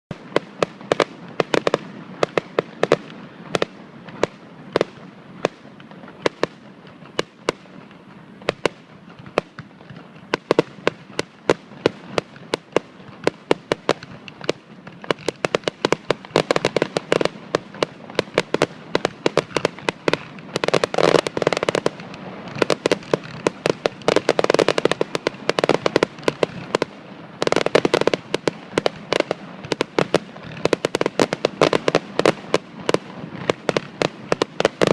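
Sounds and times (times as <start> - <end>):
fireworks bangs and pops: 0.1 - 34.9.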